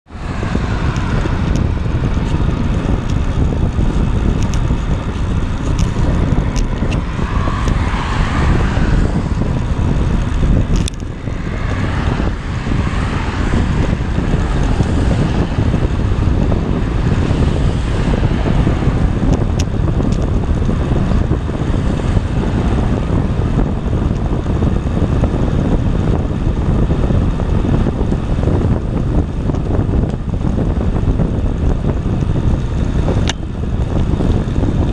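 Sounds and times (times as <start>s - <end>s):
road traffic: 0.0s - 34.9s
wind rumble on microphone: 0.0s - 34.9s
bicycle tyre noise on asphalt: 0.1s - 34.9s.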